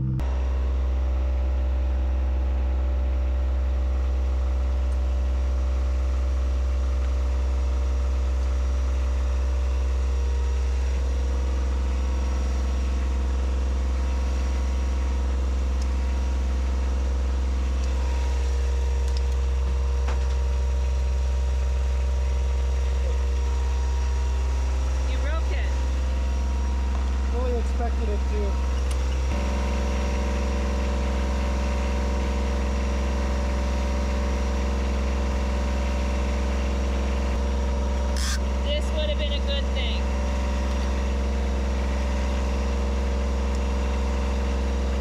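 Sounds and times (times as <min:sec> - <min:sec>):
engine-room machinery drone: 0:00.0 - 0:45.0.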